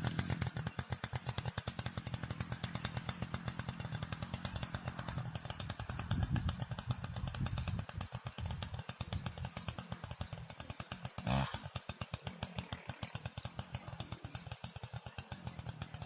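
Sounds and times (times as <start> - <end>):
brushcutter engine running: 0.0 - 16.0.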